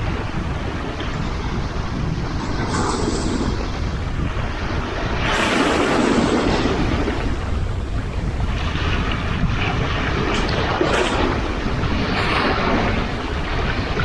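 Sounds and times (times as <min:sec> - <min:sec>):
sea waves washing on shore: 0:00.0 - 0:14.0
wind rumbling on microphone: 0:00.0 - 0:14.0.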